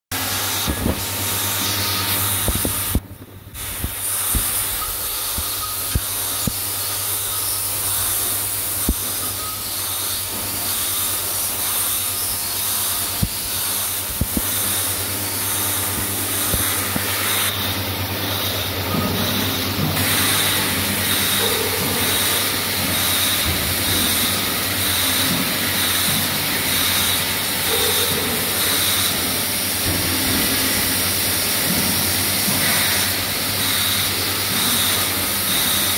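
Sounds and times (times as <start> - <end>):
machine hiss and hum: 0.1 - 35.9.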